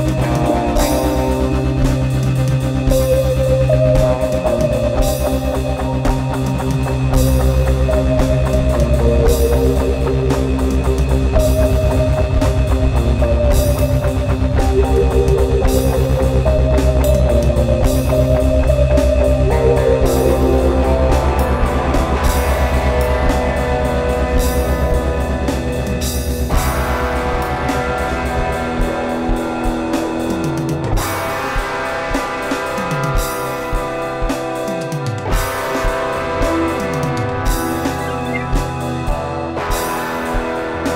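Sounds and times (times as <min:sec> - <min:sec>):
drum kit: 0:00.0 - 0:40.9
guitar and keyboard: 0:00.0 - 0:40.9.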